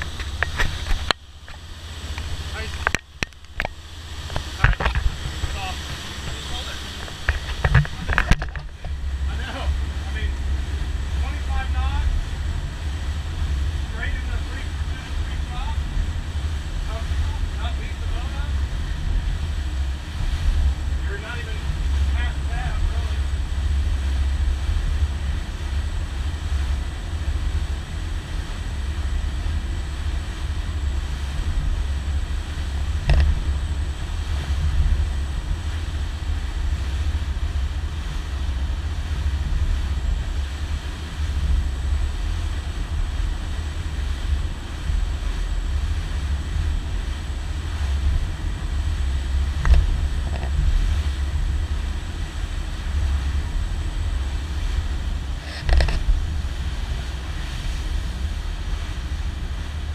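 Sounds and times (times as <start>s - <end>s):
boat engine rumbling: 0.0s - 59.9s.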